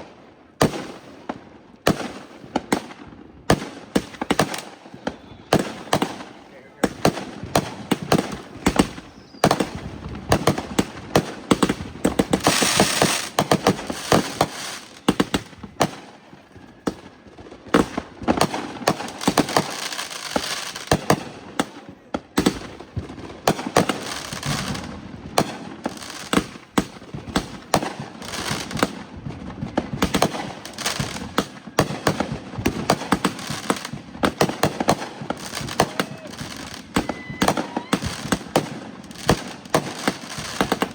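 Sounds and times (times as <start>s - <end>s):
fireworks bangs and pops: 0.0s - 40.9s.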